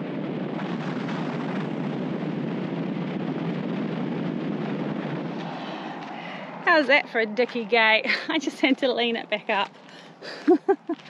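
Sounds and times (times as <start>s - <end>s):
vehicle road noise: 0.0s - 11.0s
wind rush: 0.0s - 11.0s.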